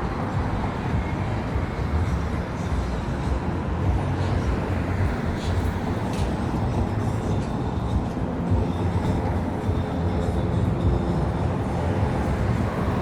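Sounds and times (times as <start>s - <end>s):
rumble of passing traffic: 0.0s - 13.0s.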